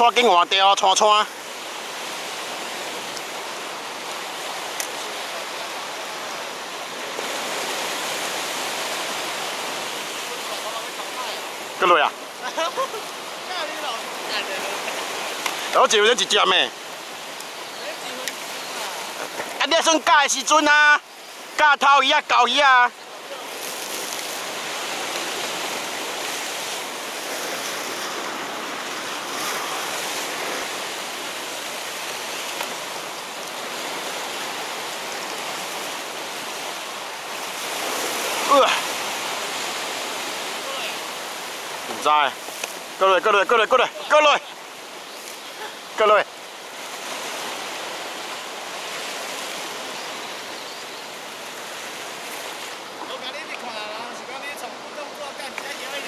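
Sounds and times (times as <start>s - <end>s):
sea waves against rocks: 0.0s - 56.0s.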